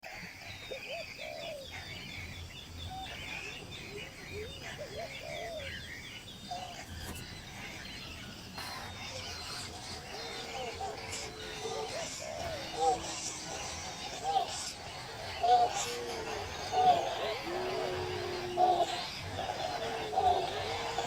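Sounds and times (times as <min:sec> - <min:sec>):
lower wavering bird calls: 0:00.0 - 0:21.0.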